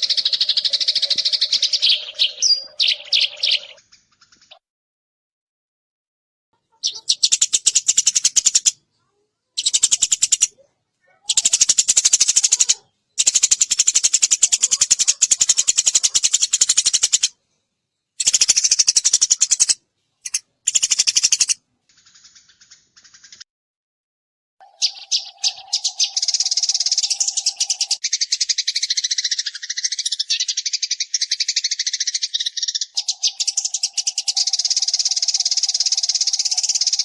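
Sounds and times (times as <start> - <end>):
sparrow rattling chirps: 0.0 - 4.6, 6.6 - 17.4, 18.1 - 23.4, 24.6 - 37.0.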